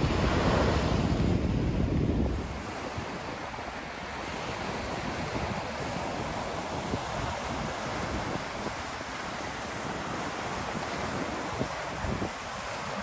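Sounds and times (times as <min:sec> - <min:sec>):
sea surf waves: 0:00.0 - 0:13.0
wind buffeting microphone: 0:00.0 - 0:13.0.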